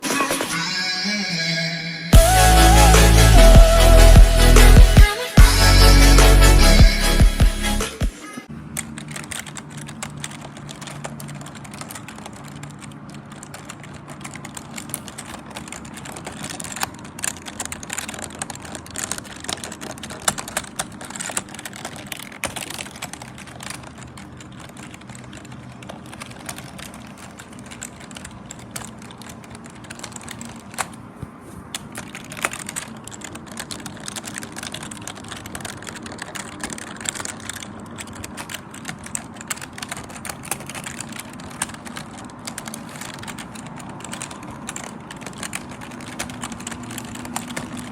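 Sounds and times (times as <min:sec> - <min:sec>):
keyboard typing: 0:02.2 - 0:47.9.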